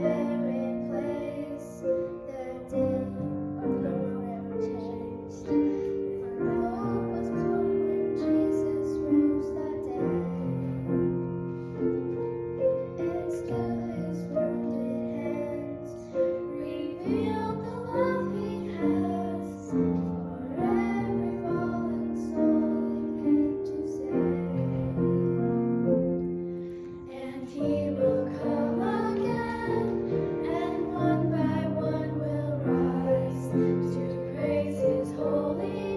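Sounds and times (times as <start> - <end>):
voices singing sacred song: 0.0 - 11.3, 12.9 - 25.7, 26.9 - 35.9
piano chords: 0.0 - 35.9.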